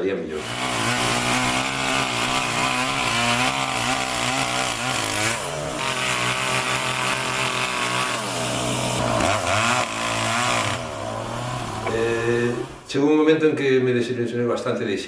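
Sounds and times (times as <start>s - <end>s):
chainsaw running and cutting: 0.4s - 12.9s.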